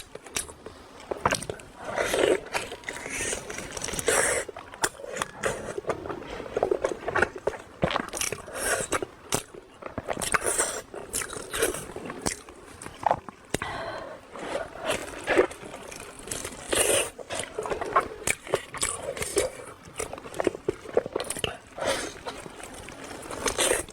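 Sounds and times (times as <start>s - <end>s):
person chewing crunchy food: 1.3s - 13.7s, 14.4s - 22.5s, 23.1s - 23.9s.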